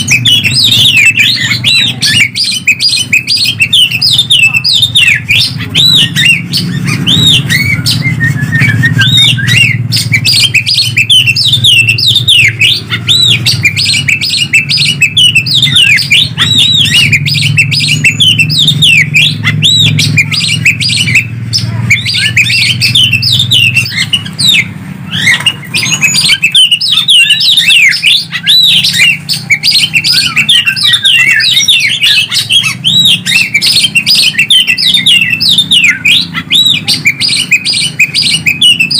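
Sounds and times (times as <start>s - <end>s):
birds singing chirps and whistles: 0.0s - 38.9s.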